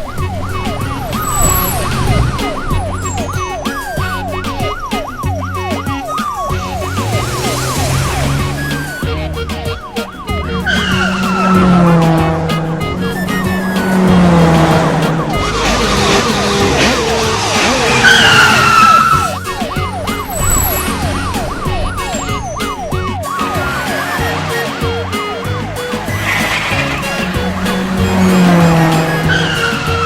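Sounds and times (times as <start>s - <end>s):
background music with bass line: 0.0s - 30.0s
cartoon police siren yelping: 0.0s - 30.0s.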